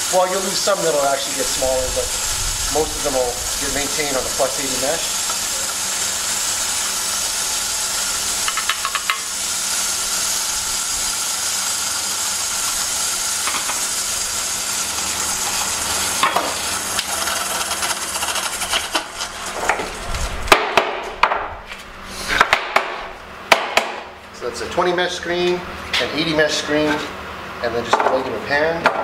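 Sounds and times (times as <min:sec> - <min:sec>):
pulverizer grinding with motor hum: 0:00.0 - 0:23.3.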